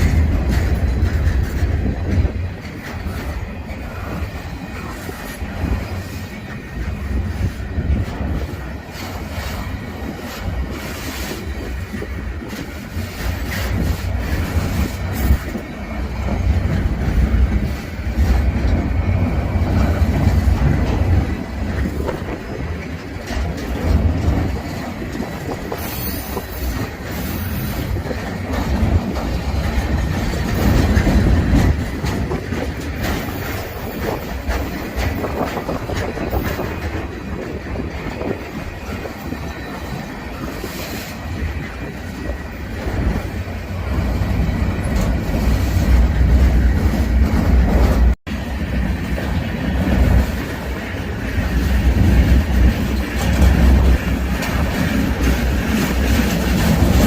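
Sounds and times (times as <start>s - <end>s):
freight train rumbling and clacking: 0.0s - 57.0s.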